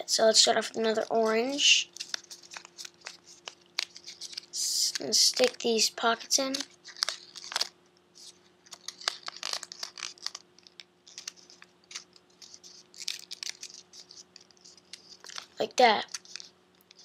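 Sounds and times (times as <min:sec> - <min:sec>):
stiff paper crinkling and rustling: 0:00.2 - 0:17.0.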